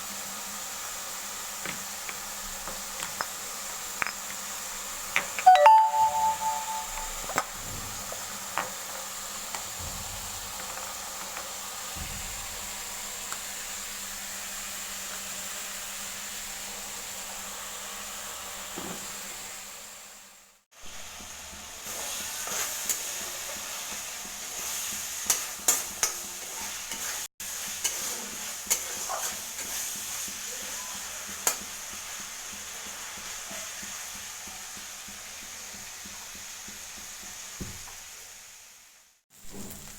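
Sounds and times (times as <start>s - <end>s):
food sizzling in a pan: 0.0s - 5.4s, 7.3s - 39.9s.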